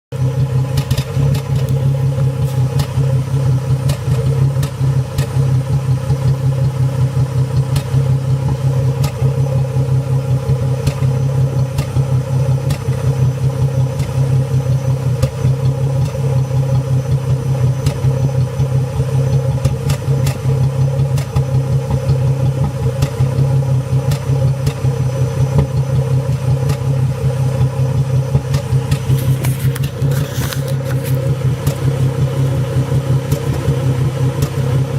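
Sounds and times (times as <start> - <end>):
car engine idling roughly: 0.1 - 34.9.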